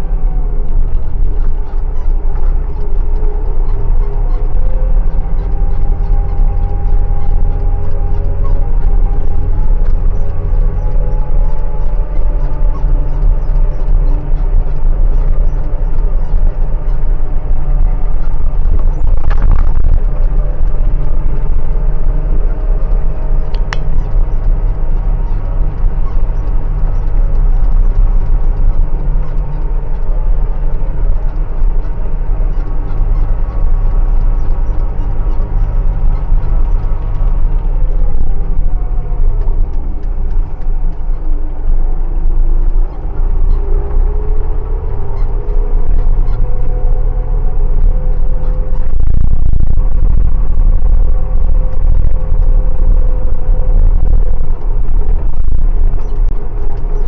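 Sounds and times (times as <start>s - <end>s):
motor engine running: 0.0s - 57.0s.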